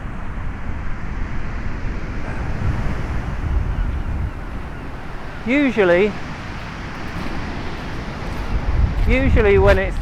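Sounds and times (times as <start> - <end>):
rough sea churning: 0.0 - 10.0
wind buffeting microphone: 0.0 - 10.0.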